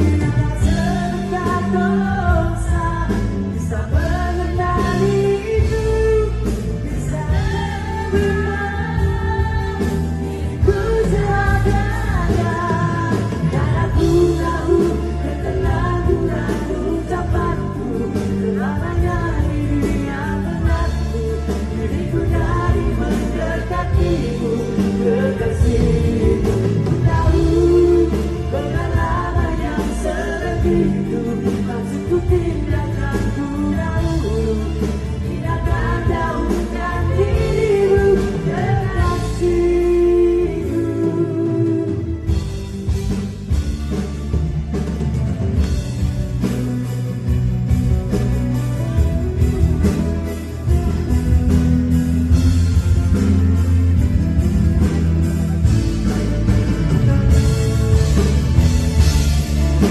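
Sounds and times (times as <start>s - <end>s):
live band music: 0.0s - 59.9s.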